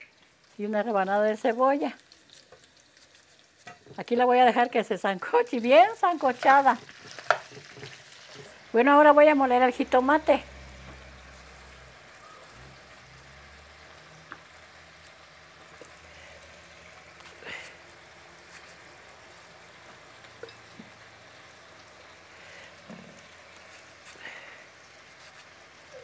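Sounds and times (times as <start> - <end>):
vegetables sizzling in oil: 0.0 - 26.0.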